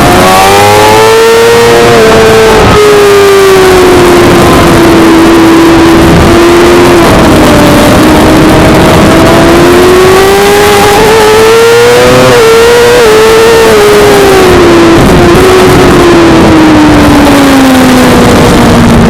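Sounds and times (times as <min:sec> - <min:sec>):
constant rushing noise: 0:00.0 - 0:19.0
motorcycle engine at speed: 0:00.0 - 0:19.0.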